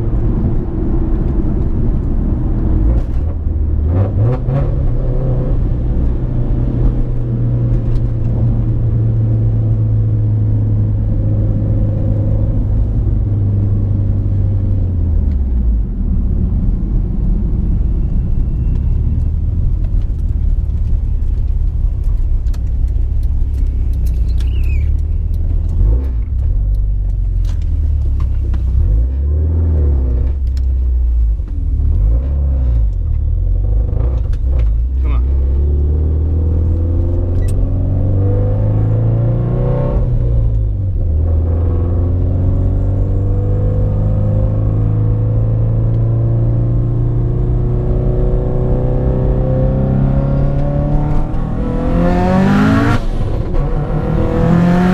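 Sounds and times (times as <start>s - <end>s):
car engine droning: 0.0s - 54.9s.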